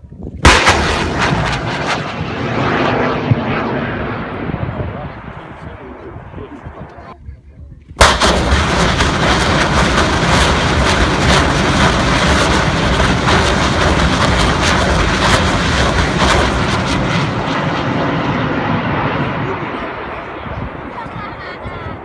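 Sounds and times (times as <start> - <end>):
rocket launch cracks: 0.4 - 7.0, 8.0 - 21.2
rocket launch blast: 0.4 - 7.1, 8.0 - 21.5.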